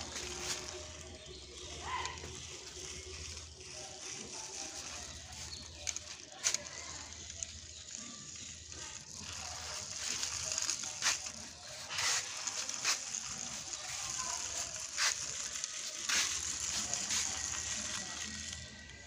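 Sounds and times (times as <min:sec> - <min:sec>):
toy car wheels rolling on concrete: 0:00.0 - 0:19.0.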